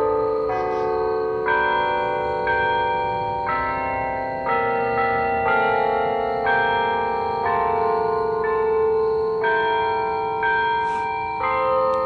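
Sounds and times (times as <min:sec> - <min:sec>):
church bells playing a tune: 0:00.0 - 0:12.0.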